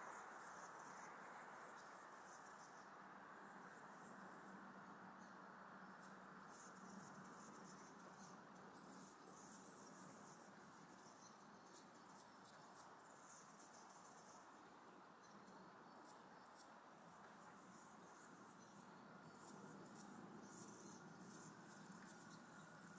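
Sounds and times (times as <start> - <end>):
faint background hiss: 0.0 - 22.9.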